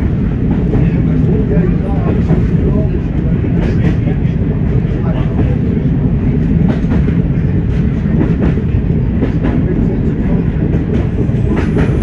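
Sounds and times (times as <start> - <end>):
train diesel engines rumbling: 0.0 - 12.0.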